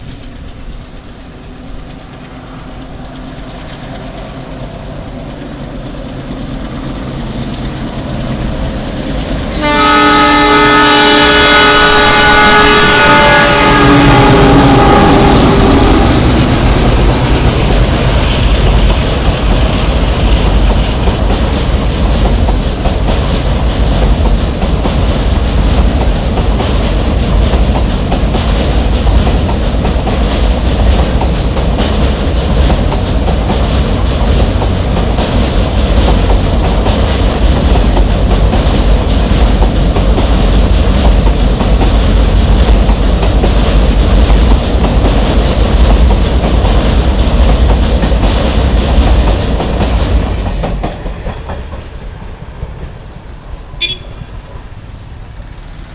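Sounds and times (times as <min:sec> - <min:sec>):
wheels clacking over rail joints: 0:00.0 - 0:53.2
diesel train passing at speed: 0:00.0 - 0:55.9.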